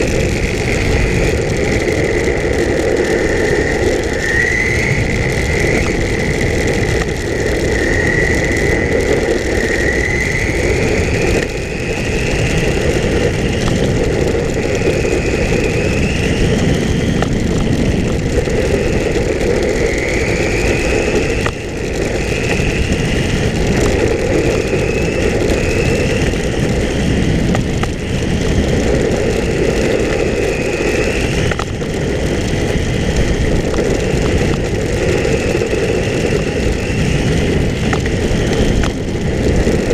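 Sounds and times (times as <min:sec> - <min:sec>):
rumble of tyres and wind: 0:00.0 - 0:39.9.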